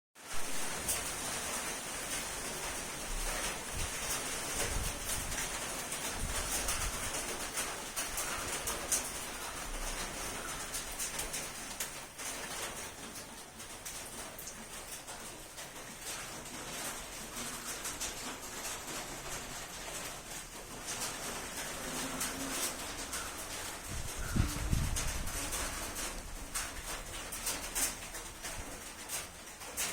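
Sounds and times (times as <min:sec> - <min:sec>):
rain falling: 0:00.2 - 0:29.9.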